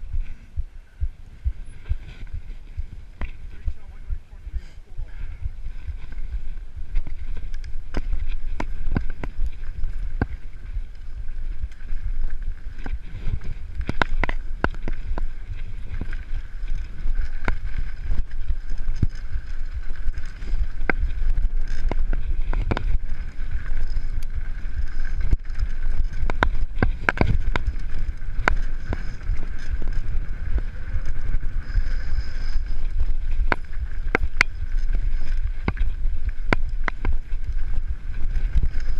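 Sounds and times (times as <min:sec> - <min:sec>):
wind rumble on microphone: 0:00.0 - 0:38.9
bike clicks and rattles: 0:01.3 - 0:04.0, 0:05.5 - 0:38.9.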